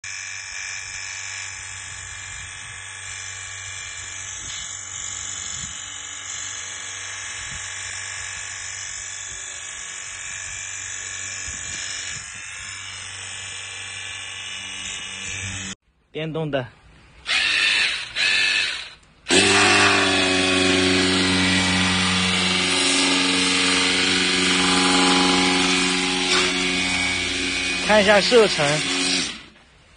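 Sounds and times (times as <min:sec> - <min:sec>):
electric pump motor whining: 0:00.1 - 0:15.8, 0:17.2 - 0:29.7.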